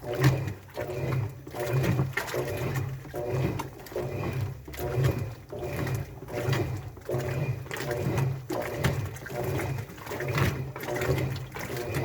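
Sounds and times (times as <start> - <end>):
washing machine motor groaning: 0.0 - 12.0
water sloshing: 0.0 - 12.0.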